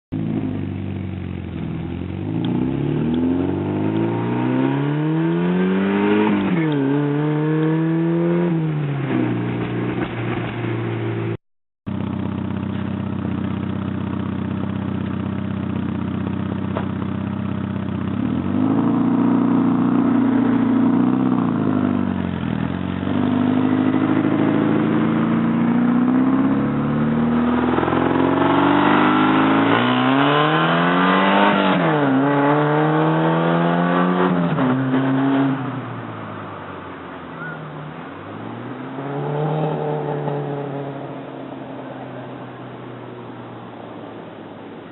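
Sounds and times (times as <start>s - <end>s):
car engine revving: 0.2s - 44.9s.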